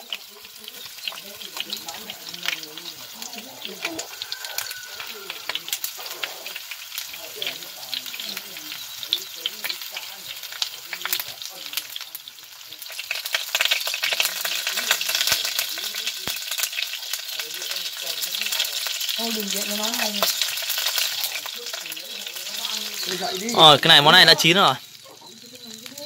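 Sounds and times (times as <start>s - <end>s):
meat frying in oil: 0.0s - 26.0s.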